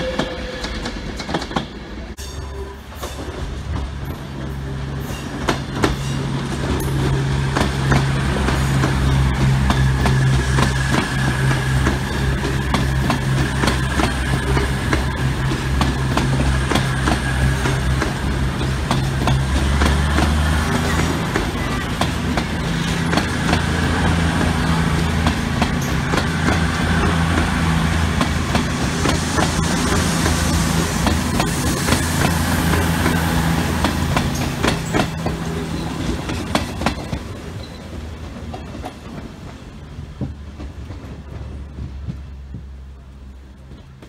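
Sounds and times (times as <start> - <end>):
electric train hum: 0.0 - 44.0
wheels clicking over rail joints: 2.9 - 44.0.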